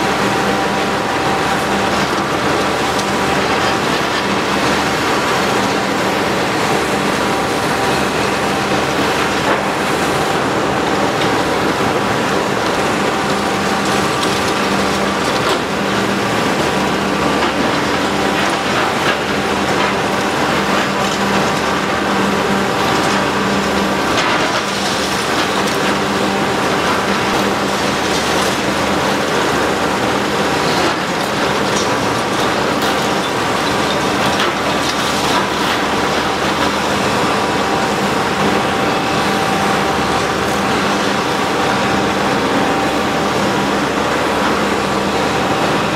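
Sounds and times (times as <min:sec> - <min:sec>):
concrete crackling and clattering: 0:00.0 - 0:45.9
excavator engine hum: 0:00.0 - 0:45.9.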